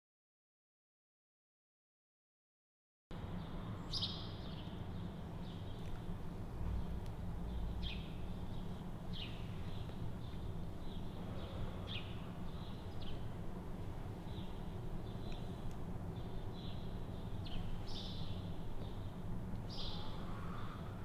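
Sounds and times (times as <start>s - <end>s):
steady low hum: 3.1s - 21.0s.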